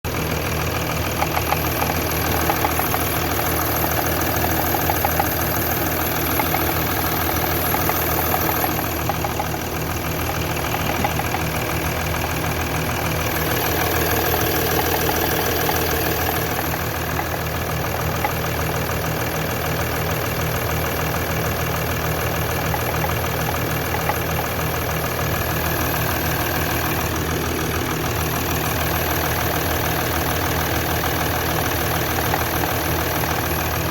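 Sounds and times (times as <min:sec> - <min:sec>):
diesel engine idling: 0:00.0 - 0:33.9
repeating engine knock: 0:00.1 - 0:33.9.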